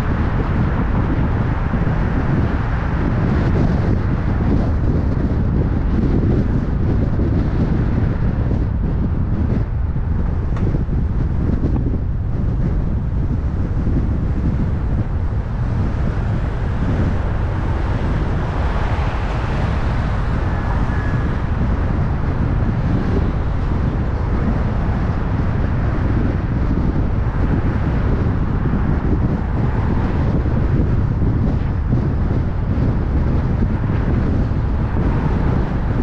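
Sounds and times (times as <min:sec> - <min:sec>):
road and tyre noise: 0:00.0 - 0:36.0
wind buffeting microphone: 0:00.0 - 0:36.0.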